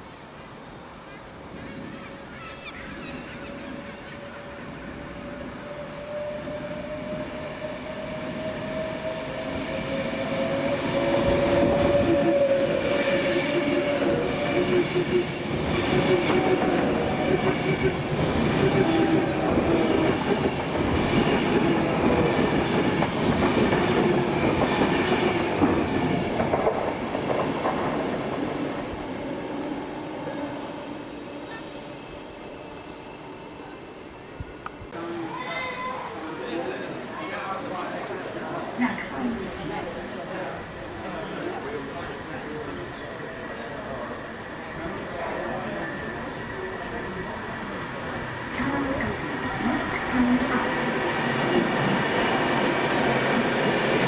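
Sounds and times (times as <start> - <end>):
train passing hum: 2.9 - 54.0.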